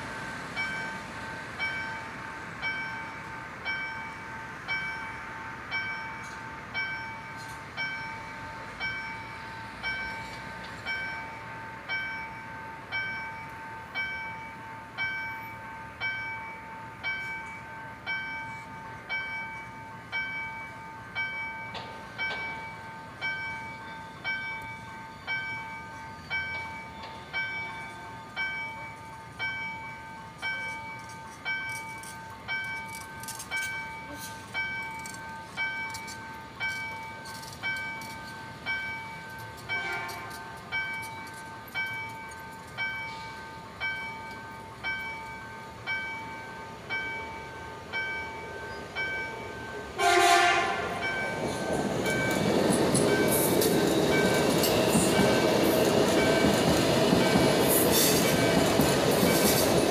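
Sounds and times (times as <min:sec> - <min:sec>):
level crossing warning bell ringing: 0:00.0 - 0:59.9.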